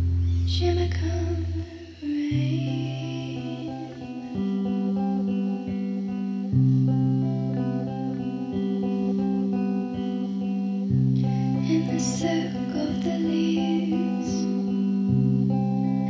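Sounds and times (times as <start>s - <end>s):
plucked guitar folk music: 0.0s - 16.0s.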